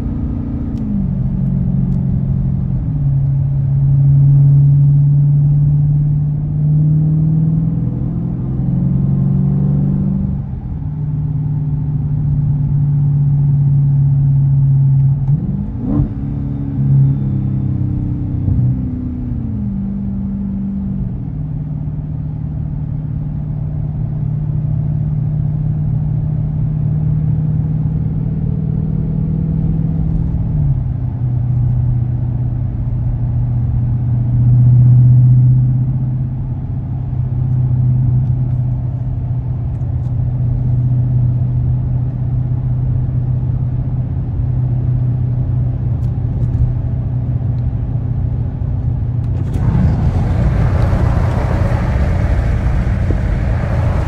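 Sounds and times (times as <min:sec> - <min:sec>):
car engine low drone: 0:00.0 - 0:54.0.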